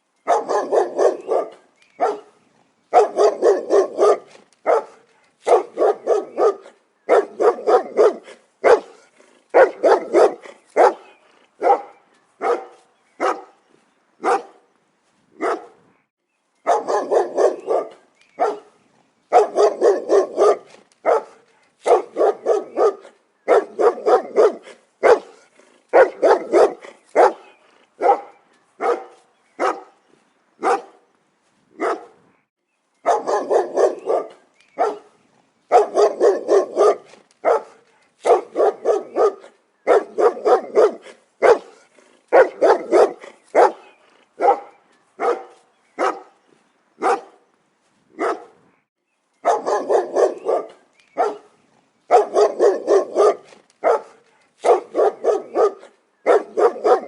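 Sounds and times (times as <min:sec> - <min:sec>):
dog barking: 0:00.3 - 0:13.6, 0:14.2 - 0:14.6, 0:15.4 - 0:15.8, 0:16.6 - 0:30.0, 0:30.6 - 0:31.0, 0:31.8 - 0:32.2, 0:33.0 - 0:46.4, 0:47.0 - 0:47.4, 0:48.2 - 0:48.6, 0:49.4 - 0:51.5, 0:52.1 - 0:57.0.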